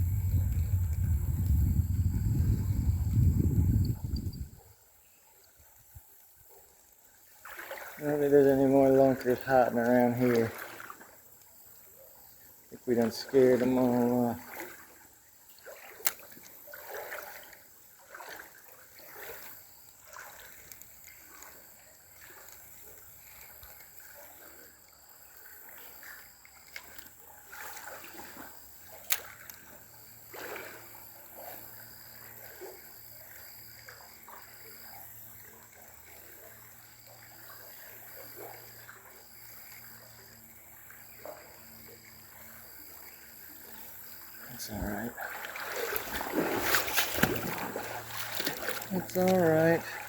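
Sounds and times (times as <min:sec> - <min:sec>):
river water splashing: 0:05.2 - 0:50.0.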